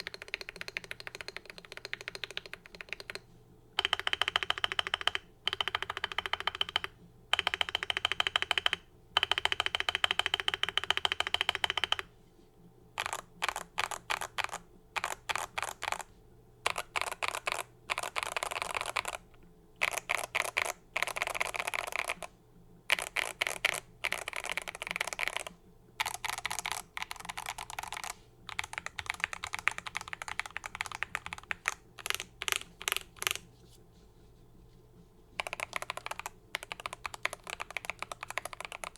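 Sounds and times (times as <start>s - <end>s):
fast typing on mechanical keyboard: 0.0s - 3.2s, 3.8s - 12.1s, 13.0s - 22.3s, 22.9s - 33.4s, 35.4s - 38.9s.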